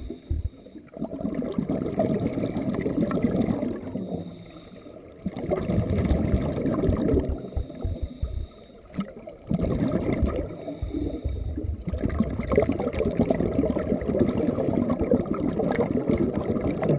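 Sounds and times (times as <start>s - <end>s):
underwater regulator bubbling: 0.0s - 16.9s.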